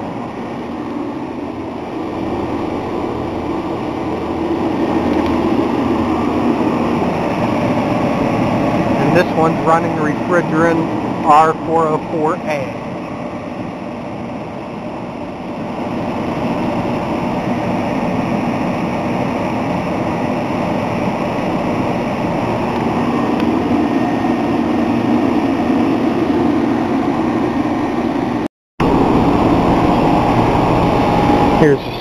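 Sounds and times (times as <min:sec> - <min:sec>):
compressor humming: 0:00.0 - 0:32.0
condenser fan rushing air: 0:00.0 - 0:32.0.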